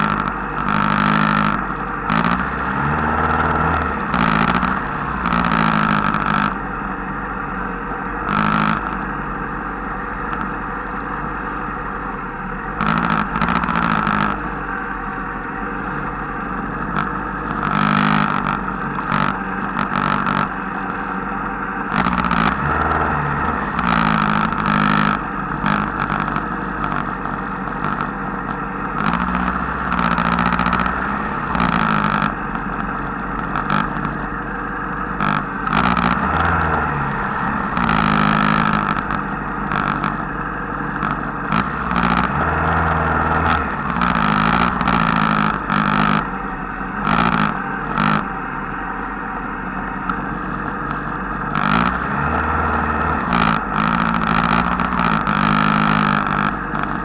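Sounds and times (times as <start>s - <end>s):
rushes of noise: 0.0s - 6.7s, 12.7s - 57.0s
motorcycle and scooter engines: 0.0s - 57.0s.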